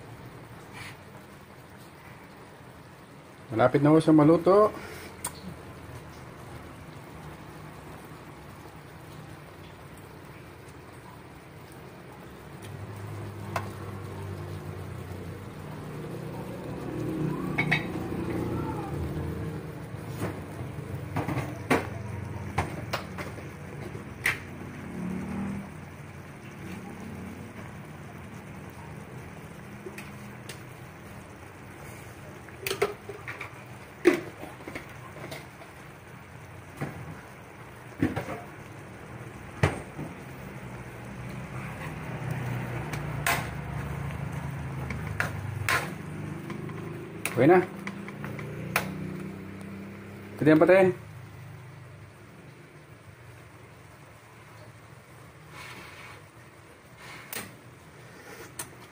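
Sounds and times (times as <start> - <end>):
food simmering in a wok: 0.0 - 58.9.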